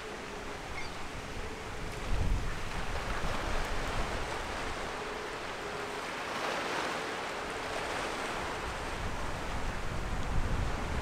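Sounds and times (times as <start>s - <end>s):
wind buffeting microphone: 0.0s - 5.8s, 7.5s - 11.0s
river water rushing: 0.0s - 11.0s.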